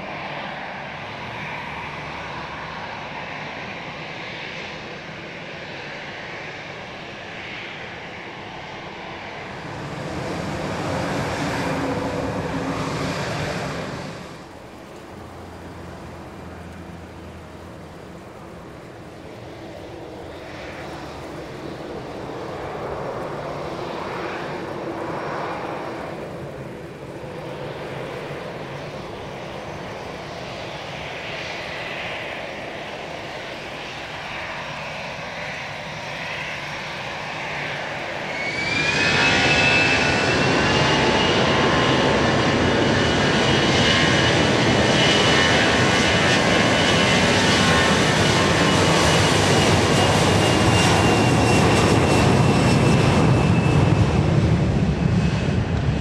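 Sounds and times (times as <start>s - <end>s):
airliner engines whining: 0.0s - 56.0s.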